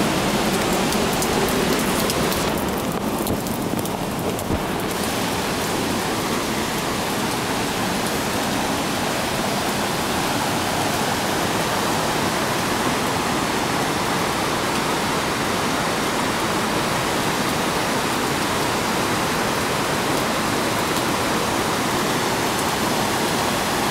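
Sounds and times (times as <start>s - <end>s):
river rushing through rapids: 0.0s - 23.9s.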